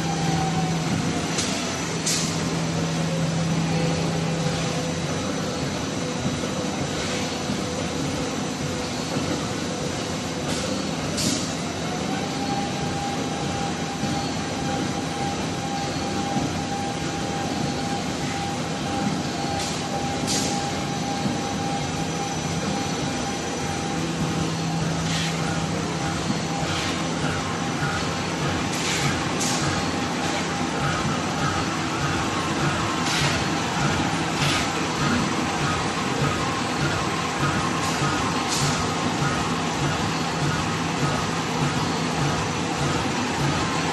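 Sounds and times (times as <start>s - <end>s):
packing machine mechanical din: 0.0s - 43.9s.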